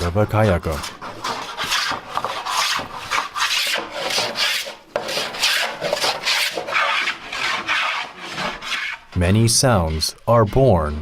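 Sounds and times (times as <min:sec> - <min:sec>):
hand tool rasping wood: 0:00.0 - 0:11.0.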